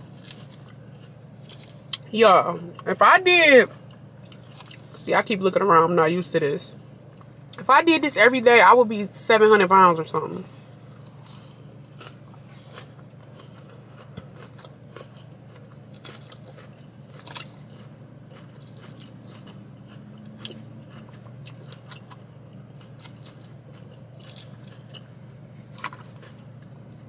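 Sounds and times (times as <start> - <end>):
chewing and crunching salad: 0.0 - 6.2, 10.0 - 27.0
steady low hum: 0.0 - 27.0.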